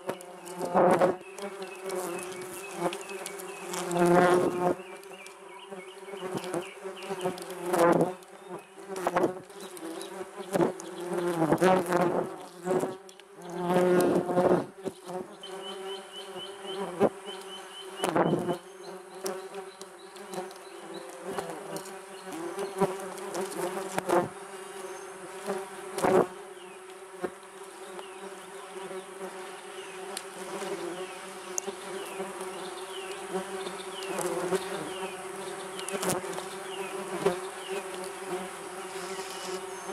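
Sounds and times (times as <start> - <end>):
wasps buzzing in flight: 0.0 - 39.9.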